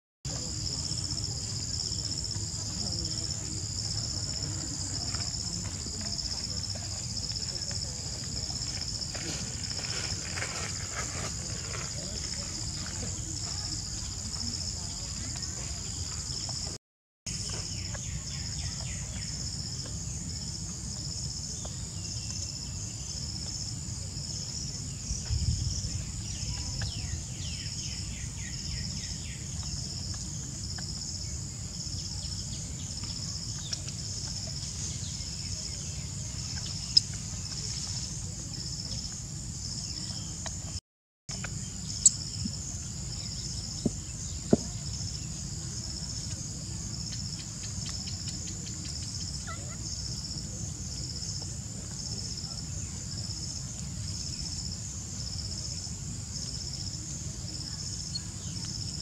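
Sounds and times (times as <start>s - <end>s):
insects chirping: 0.3s - 59.0s.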